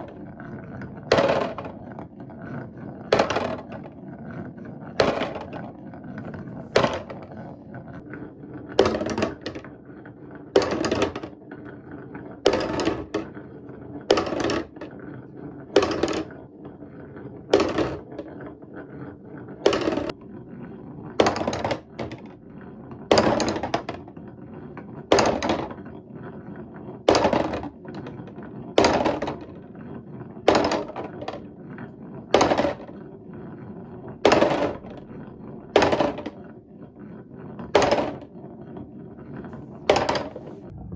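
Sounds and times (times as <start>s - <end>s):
marble rolling on wooden track: 0.0s - 40.9s.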